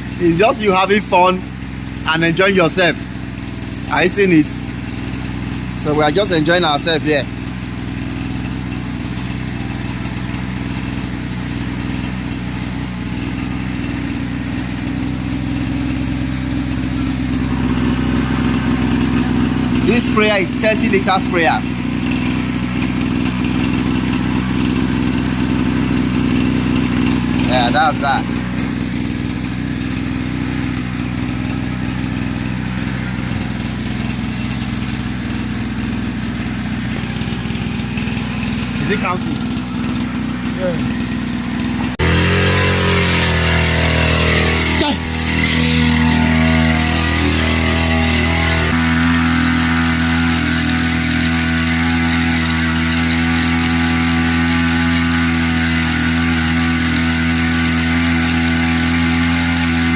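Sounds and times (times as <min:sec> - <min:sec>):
small petrol engine running: 0:00.0 - 0:59.9.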